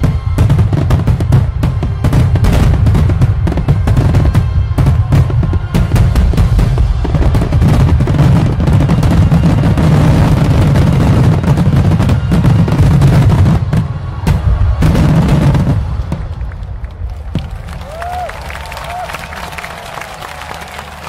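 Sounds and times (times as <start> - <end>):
firework booms and cracks: 0.0 - 18.3.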